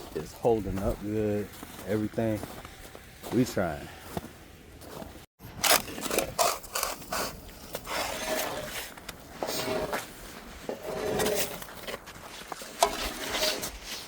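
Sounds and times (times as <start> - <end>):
snow crunching and scraping: 0.0 - 14.0.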